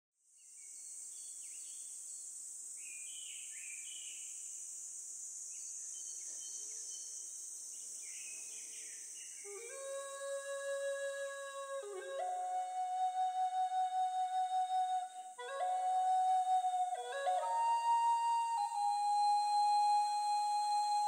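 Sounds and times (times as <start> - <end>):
high insect drone: 0.4 - 21.0.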